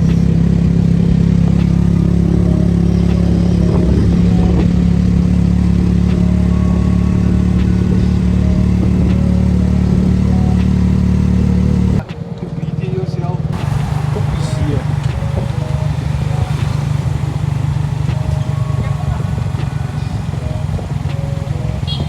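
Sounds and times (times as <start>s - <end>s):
engine running steadily: 0.0s - 12.1s, 13.5s - 22.0s.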